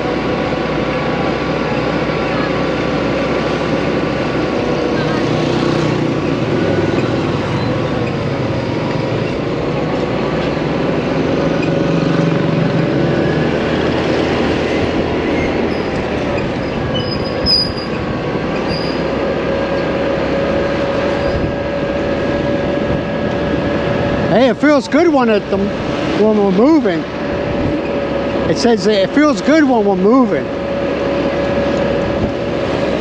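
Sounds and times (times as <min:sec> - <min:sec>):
motorcycle engine: 0:00.0 - 0:33.0
road and wind noise: 0:00.0 - 0:33.0.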